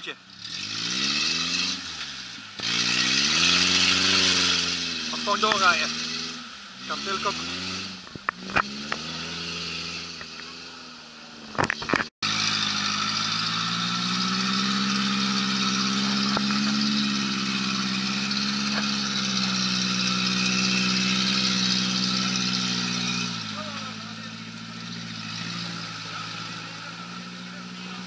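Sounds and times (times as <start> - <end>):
vehicle engine running under load: 0.0 - 28.0.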